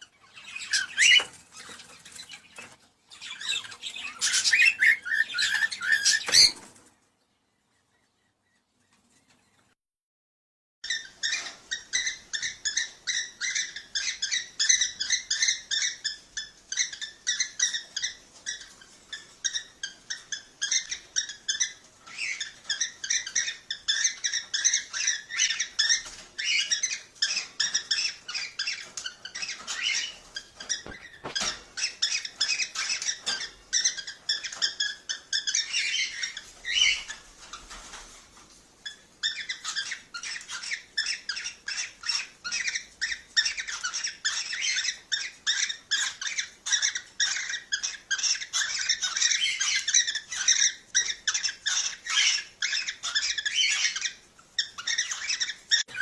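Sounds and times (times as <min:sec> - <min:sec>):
cockatiels chirping: 0:00.0 - 0:06.8, 0:10.8 - 0:56.0.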